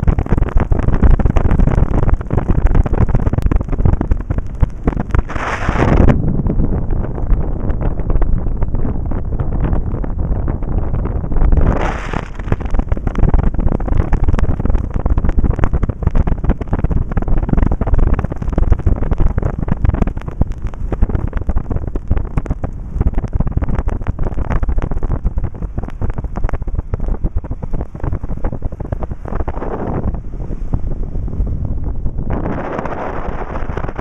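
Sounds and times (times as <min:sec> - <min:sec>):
car rumbling on road: 0:00.0 - 0:34.0
wind buffeting microphone: 0:00.0 - 0:34.0.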